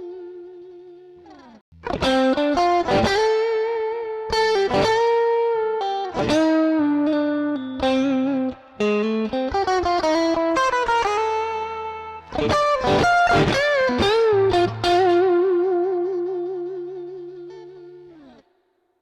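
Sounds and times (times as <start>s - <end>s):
overdriven electric guitar lead: 0.0s - 18.4s.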